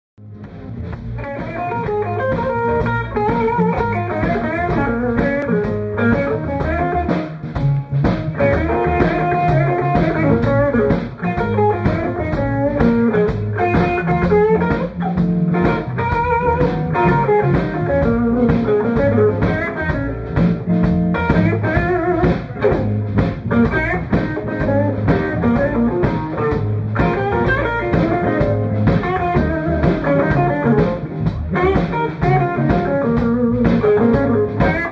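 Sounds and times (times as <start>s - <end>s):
live blues band playing: 0.2s - 34.9s.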